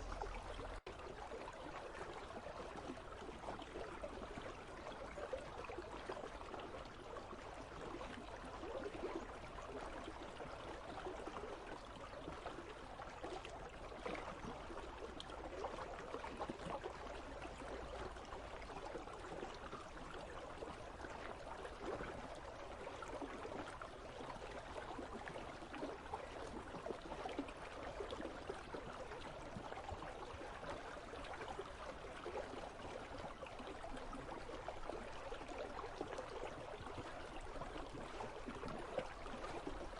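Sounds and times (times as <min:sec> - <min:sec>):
river water babbling among ice: 0:00.0 - 0:39.9.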